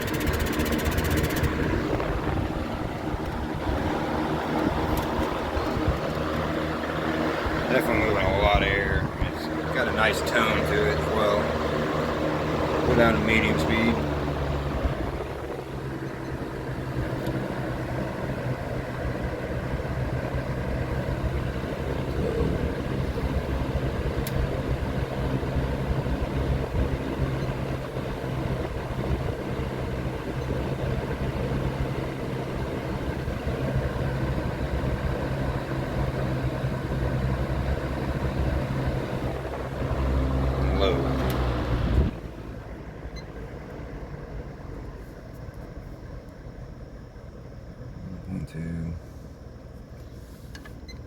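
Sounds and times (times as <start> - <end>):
box fan running: 0.0 - 51.0.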